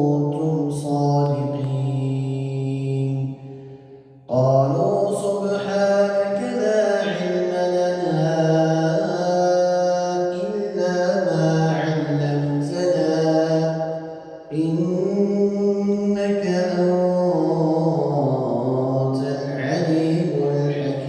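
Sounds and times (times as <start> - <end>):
man reciting melodically over loudspeakers: 0.0 - 21.0.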